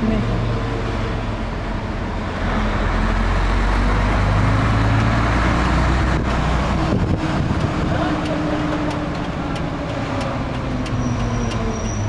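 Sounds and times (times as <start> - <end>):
truck engine running: 0.0 - 12.0
tyre and road noise: 0.0 - 12.0.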